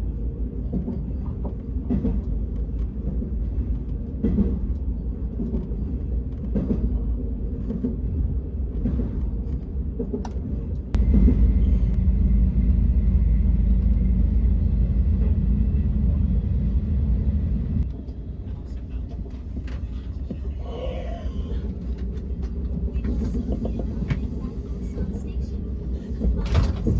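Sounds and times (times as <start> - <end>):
train rumbling: 0.0 - 26.9.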